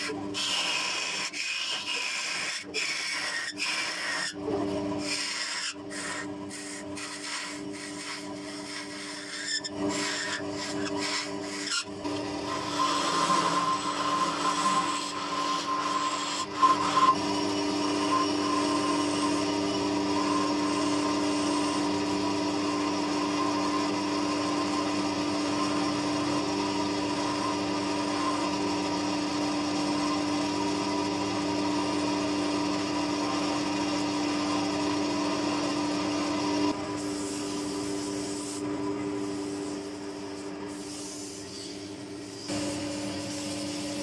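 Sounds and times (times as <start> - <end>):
chisel cutting spinning wood: 0.0 - 44.0
lathe motor hum: 0.0 - 44.0.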